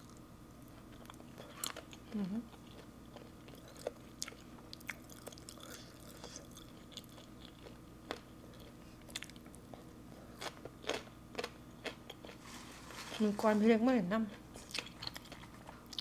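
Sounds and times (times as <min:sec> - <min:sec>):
chewing and crunching food: 0:00.0 - 0:13.4, 0:14.2 - 0:16.0.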